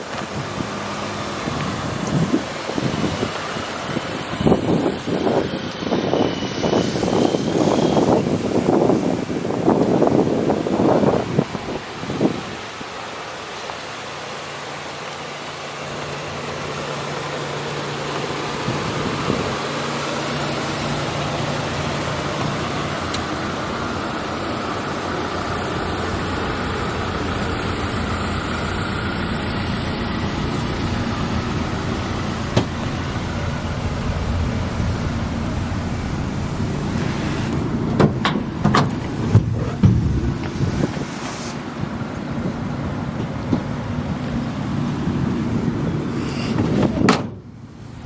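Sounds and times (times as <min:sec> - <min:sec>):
pickup engine idling: 0:00.0 - 0:41.0, 0:41.7 - 0:48.0.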